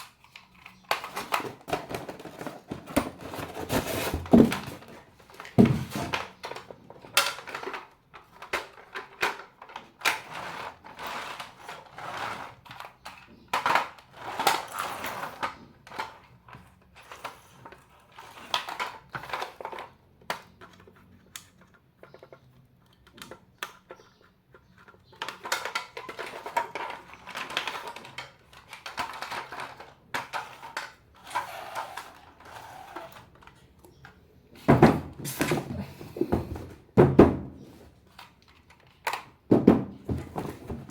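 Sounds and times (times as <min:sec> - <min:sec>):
hard objects clicking and clattering: 0:00.0 - 0:40.9.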